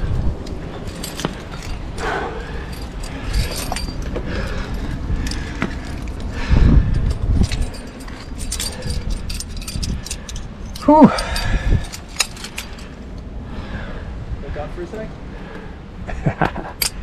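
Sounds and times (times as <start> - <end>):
metal climbing gear clinking: 0.0 - 13.3, 16.6 - 17.0.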